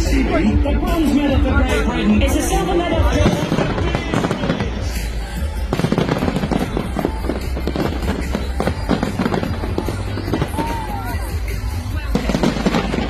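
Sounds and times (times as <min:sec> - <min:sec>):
fireworks banging and crackling: 0:00.0 - 0:13.0
loud music with heavy bass: 0:00.0 - 0:13.0.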